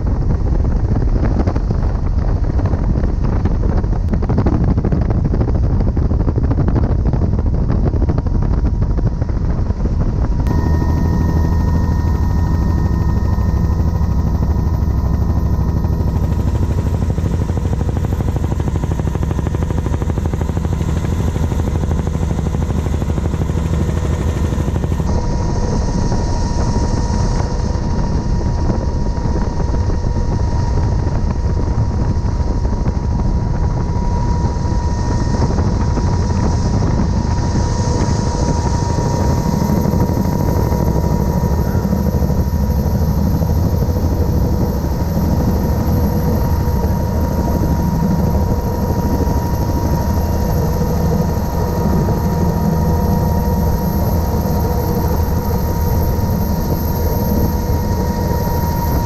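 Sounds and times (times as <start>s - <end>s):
helicopter rotor drone: 0.0s - 59.0s
high whine: 0.0s - 59.0s.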